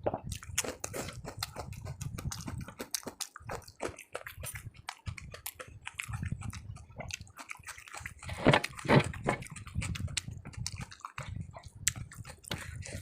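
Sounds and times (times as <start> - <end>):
chewing and mouth smacking: 0.0 - 13.0.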